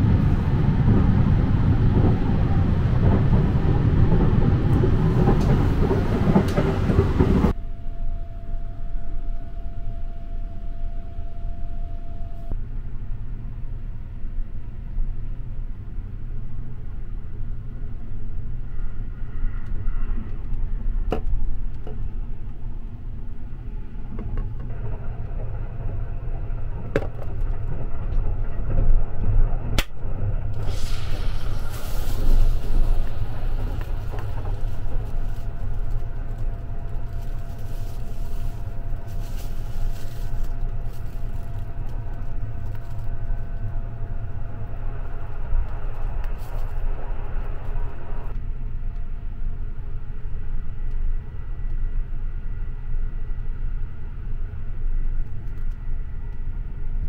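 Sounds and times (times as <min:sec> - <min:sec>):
train running low rumble: 0:00.0 - 0:57.0.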